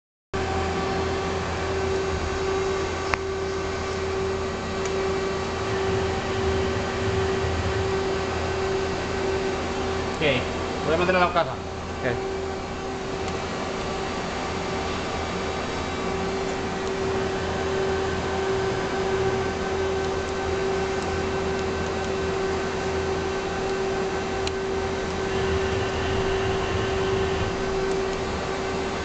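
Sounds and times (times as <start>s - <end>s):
lathe humming with whine: 0.4s - 29.0s.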